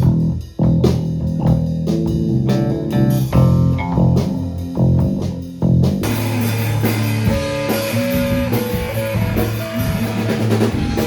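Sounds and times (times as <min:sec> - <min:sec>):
full band with drums and cymbals: 0:00.0 - 0:11.0
plucked bass and guitar notes: 0:01.4 - 0:11.0.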